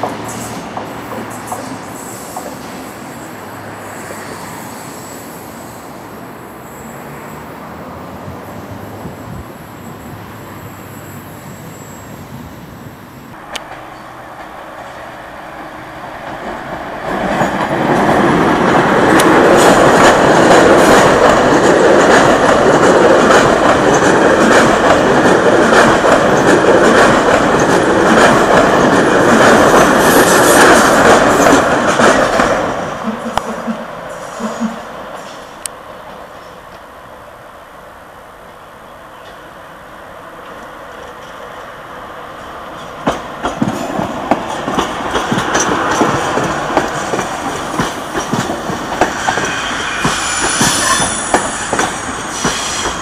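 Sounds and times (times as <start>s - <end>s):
high-speed train passing: 0.0s - 53.0s.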